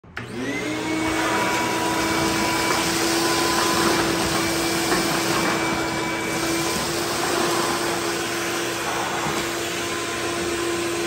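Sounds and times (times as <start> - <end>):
shop vacuum whining: 0.0 - 11.0
vacuum sucking up debris: 0.4 - 11.0.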